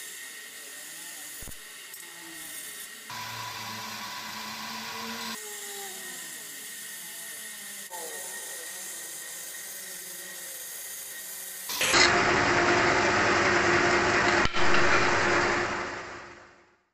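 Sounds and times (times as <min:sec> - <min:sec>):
woodworking power tool running: 0:00.0 - 0:16.6.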